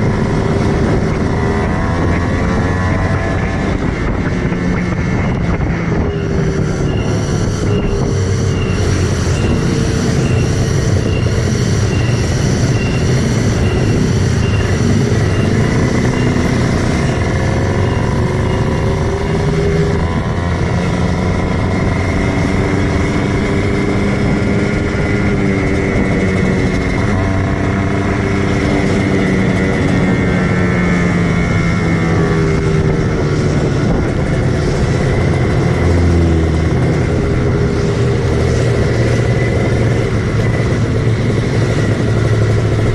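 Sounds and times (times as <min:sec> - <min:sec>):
motorcycle engine accelerating: 0:00.0 - 0:42.9
wind and road noise: 0:00.0 - 0:42.9.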